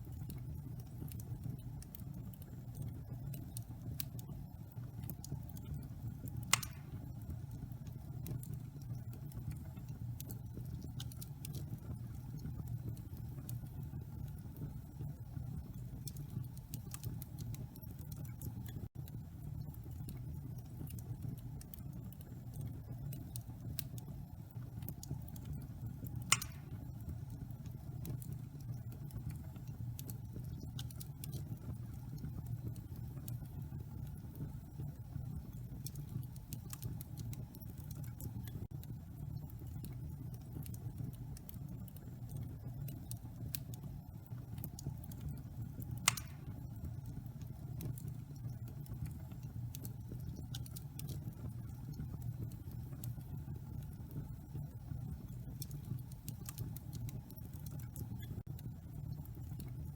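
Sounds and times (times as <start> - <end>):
fire popping: 0.0 - 59.9
low fire rumble: 0.0 - 59.9
wood fire crackling: 0.0 - 59.9.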